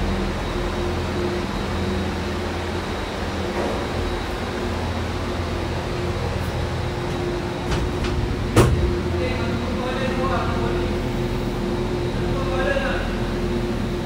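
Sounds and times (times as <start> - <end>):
gondola machinery humming: 0.0 - 14.0.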